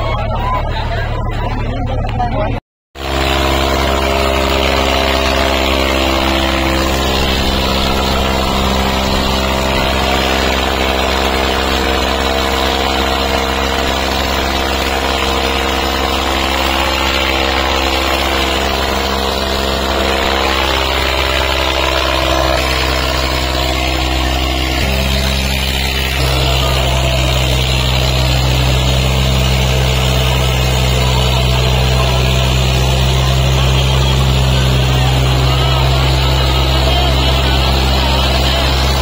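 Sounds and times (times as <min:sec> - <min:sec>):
tractor engines under heavy load: 0:00.0 - 0:39.0.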